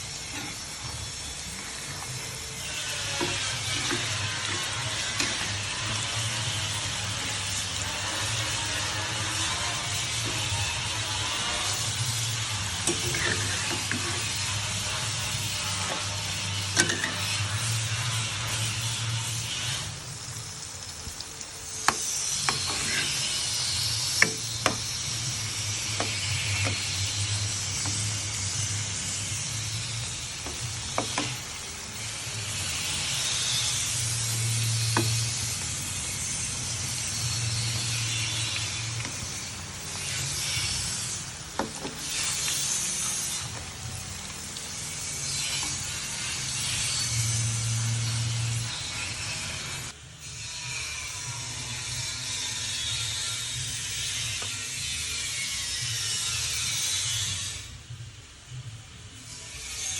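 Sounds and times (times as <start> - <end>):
hot oil sizzling: 0.0 - 59.9.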